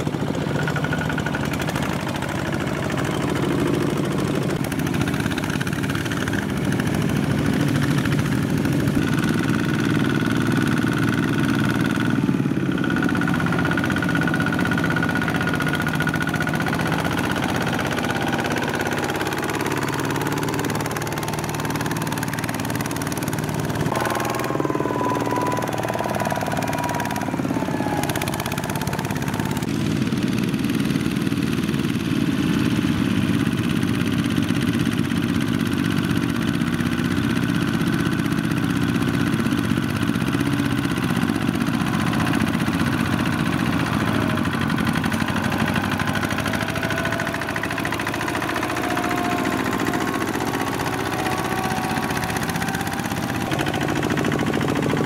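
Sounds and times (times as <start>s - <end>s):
diesel tractor engines running: 0.0s - 55.0s.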